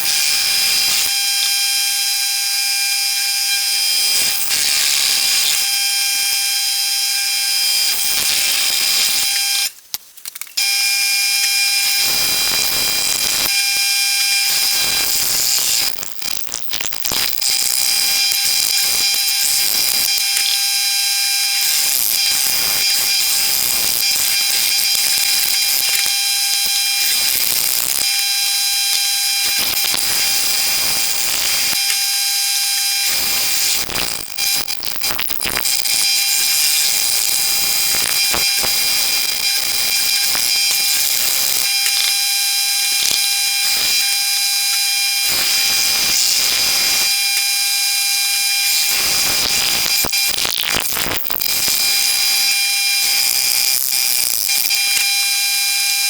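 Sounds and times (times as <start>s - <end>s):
cnc router whining: 0.0s - 9.7s, 10.6s - 56.0s.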